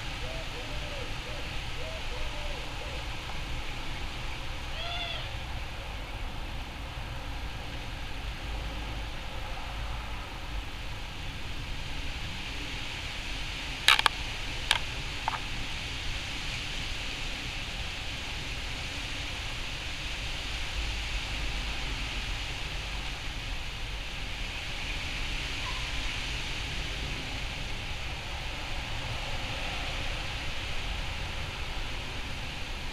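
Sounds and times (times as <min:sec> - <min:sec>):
low rumble with hiss: 0:00.0 - 0:32.9.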